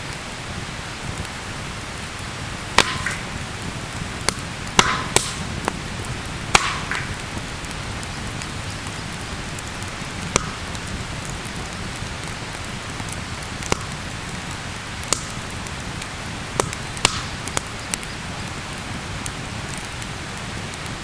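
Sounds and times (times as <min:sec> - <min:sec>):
burning wood popping: 0:00.0 - 0:21.0
wood campfire crackling: 0:00.0 - 0:21.0.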